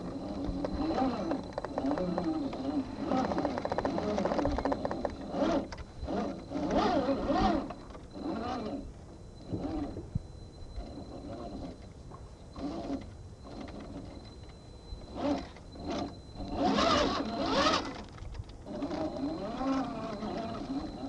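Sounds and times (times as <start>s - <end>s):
electric motor and drivetrain whining: 0.0s - 21.0s.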